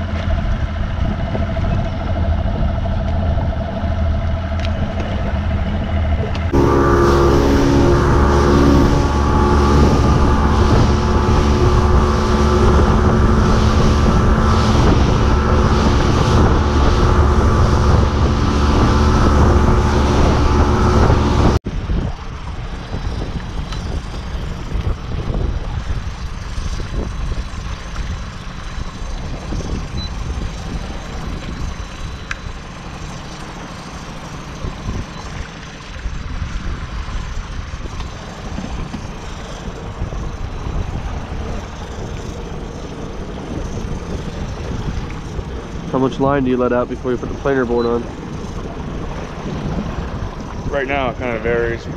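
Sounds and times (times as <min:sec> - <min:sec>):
outboard motor running: 0:00.0 - 0:51.9
wind: 0:00.0 - 0:51.9
rushing water: 0:04.0 - 0:21.6, 0:22.2 - 0:51.9.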